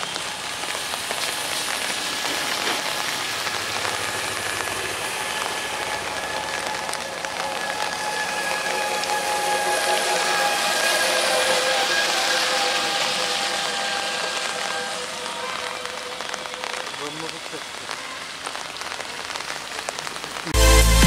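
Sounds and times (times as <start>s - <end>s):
steady whine: 0.0s - 18.2s
train coaches running on track: 0.0s - 20.5s
steady rain falling: 0.0s - 21.0s.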